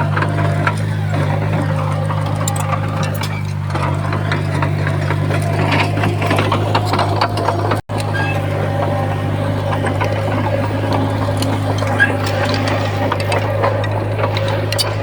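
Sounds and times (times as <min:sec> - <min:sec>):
diesel engine running: 0:00.0 - 0:15.0
metallic clanking and rattling: 0:00.0 - 0:15.0.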